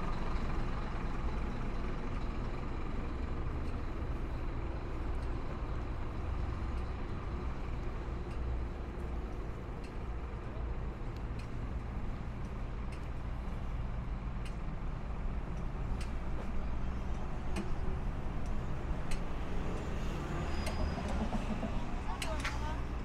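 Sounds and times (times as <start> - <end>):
city traffic noise: 0.0 - 23.0
truck engine idling: 0.0 - 23.0.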